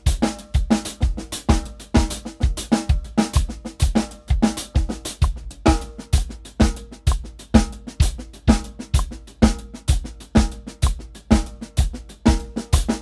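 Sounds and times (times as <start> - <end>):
hi-hat and cymbals: 0.0 - 13.0
kick drum: 0.0 - 13.0
snare drum strokes: 0.0 - 13.0.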